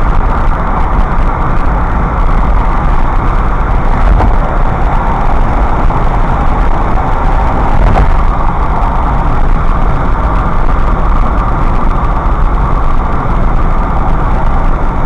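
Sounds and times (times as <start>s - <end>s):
car engine hum: 0.0s - 15.0s
road and tyre noise: 0.0s - 15.0s.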